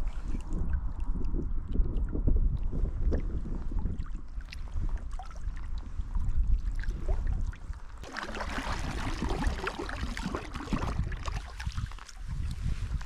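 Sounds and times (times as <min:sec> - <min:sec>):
paddle splashing and dripping: 0:00.0 - 0:13.0
water lapping at hull: 0:00.0 - 0:13.0.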